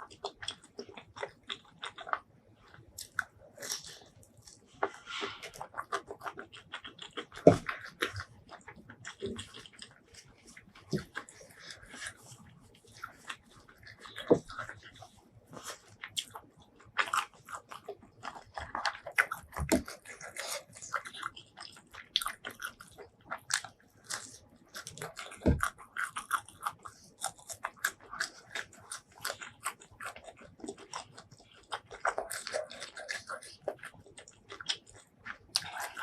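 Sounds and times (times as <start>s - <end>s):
crunchy chewing: 0.0s - 36.0s.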